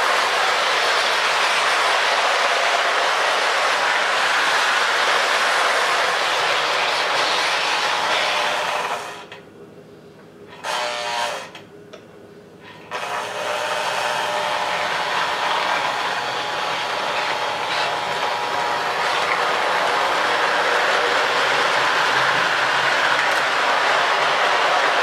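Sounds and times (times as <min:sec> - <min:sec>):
wheels running on rails: 0:00.0 - 0:09.0, 0:13.8 - 0:25.0
toy train motor whirring: 0:00.0 - 0:09.3, 0:12.8 - 0:25.0.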